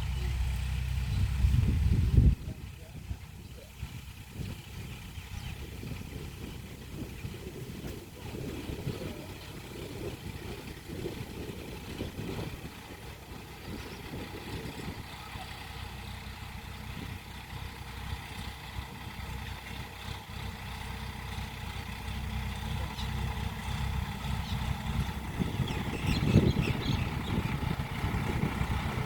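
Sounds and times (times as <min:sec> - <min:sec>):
tractor diesel engine rumbling: 0:00.0 - 0:29.0.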